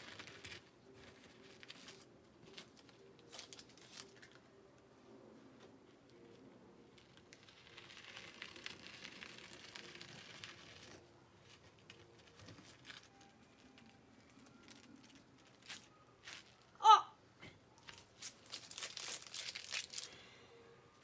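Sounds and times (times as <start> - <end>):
plastic sheet rustling and crinkling: 0.0 - 4.5, 5.6 - 16.7, 17.8 - 20.2.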